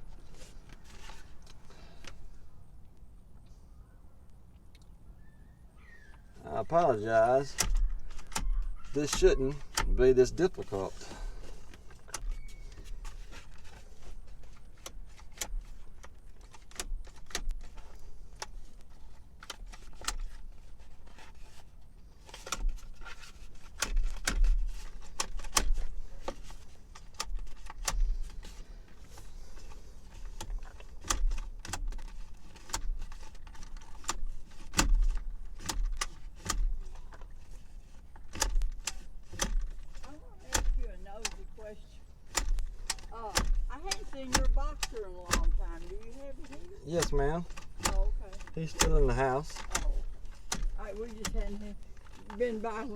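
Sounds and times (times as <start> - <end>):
seatbelt retractor clicking and clunking: 7.0 - 52.9.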